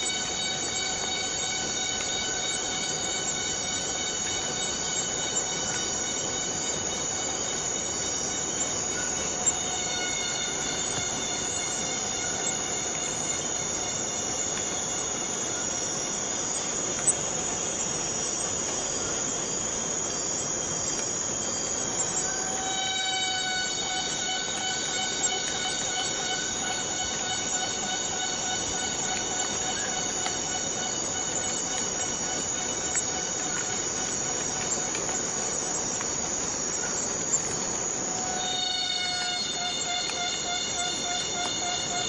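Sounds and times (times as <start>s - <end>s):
cicadas buzzing: 0.0s - 42.0s.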